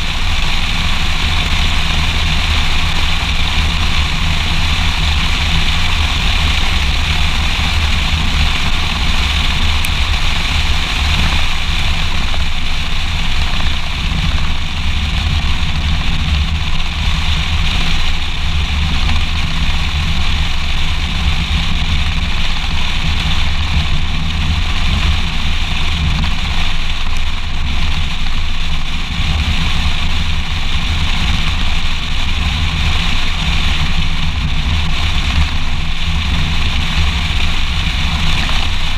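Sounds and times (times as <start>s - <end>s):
tyre road noise: 0.0s - 38.9s.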